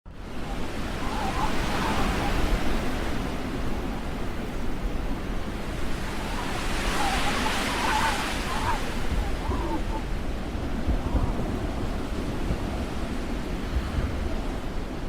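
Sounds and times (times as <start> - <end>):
wind blowing across microphone: 0.1 - 15.0.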